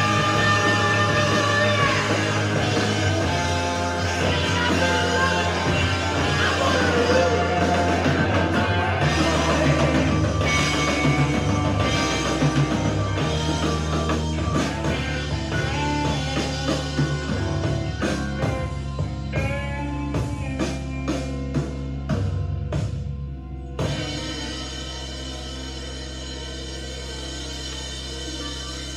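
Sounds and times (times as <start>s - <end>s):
rock music: 0.0s - 28.9s.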